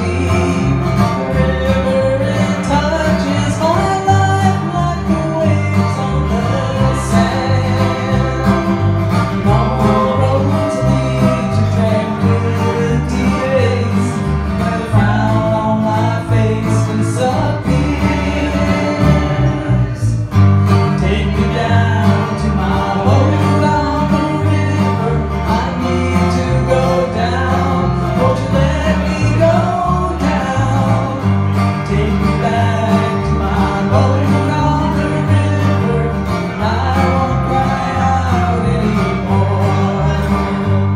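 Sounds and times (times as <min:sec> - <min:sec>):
bass line: 0:00.0 - 0:40.9
guitars playing: 0:00.0 - 0:40.9
person singing: 0:00.0 - 0:40.9.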